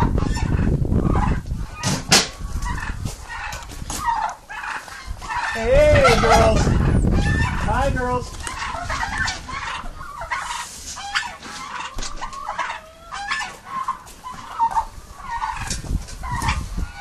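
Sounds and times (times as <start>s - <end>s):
turkeys calling: 0.0s - 17.0s.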